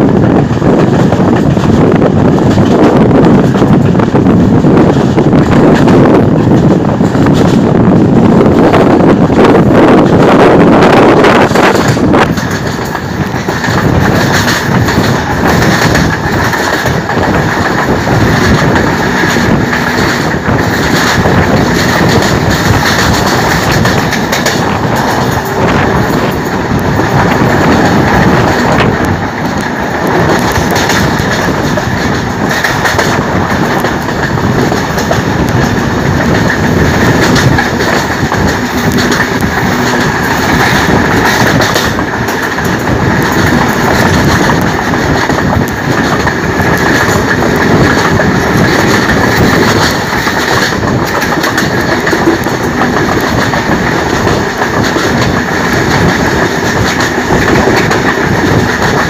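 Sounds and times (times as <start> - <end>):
train rumbling along track: 0.0 - 59.0
wheels clicking over rails: 0.3 - 59.0.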